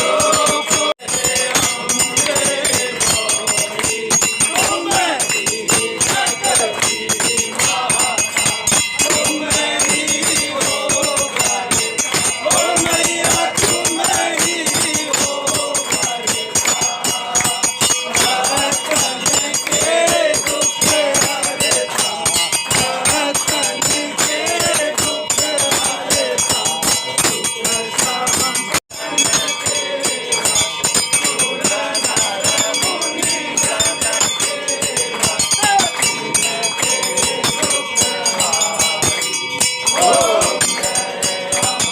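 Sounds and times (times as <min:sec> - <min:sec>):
group singing: 0:00.0 - 0:41.9
rattling metal percussion: 0:00.0 - 0:41.9
ringing bells: 0:00.0 - 0:41.9.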